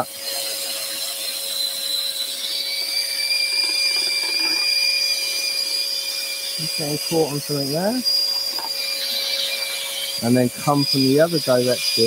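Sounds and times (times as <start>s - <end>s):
scroll saw cutting wood: 0.0s - 12.0s.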